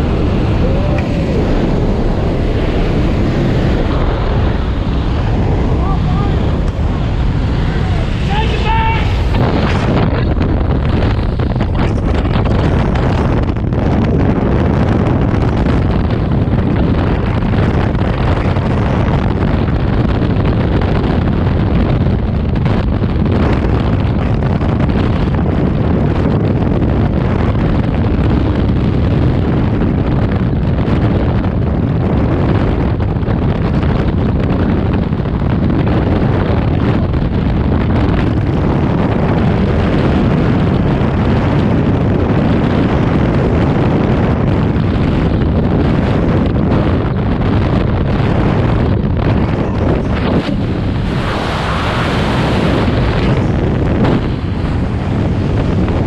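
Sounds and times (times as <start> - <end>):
freefall wind rushing: 0.0 - 56.0.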